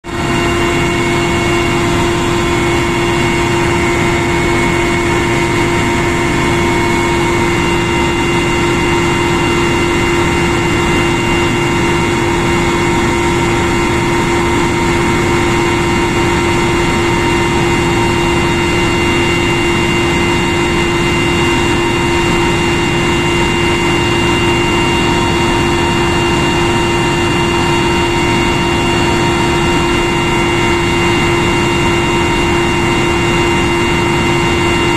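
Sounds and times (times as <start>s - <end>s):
helicopter turbine and rotor roar: 0.0s - 34.9s.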